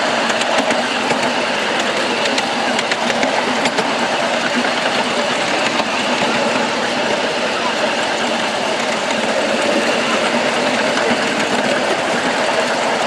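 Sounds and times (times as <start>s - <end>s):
miniature train running on track: 0.0s - 13.0s
wheels clicking and rattling: 0.0s - 13.0s.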